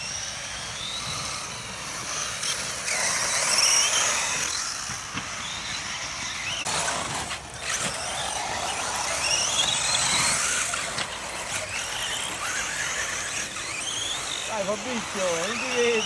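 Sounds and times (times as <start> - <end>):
small motors whining: 0.0 - 16.0.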